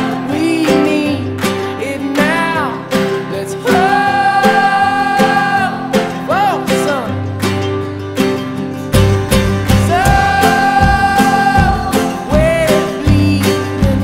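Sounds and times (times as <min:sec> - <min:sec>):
song with acoustic guitar: 0:00.0 - 0:14.0.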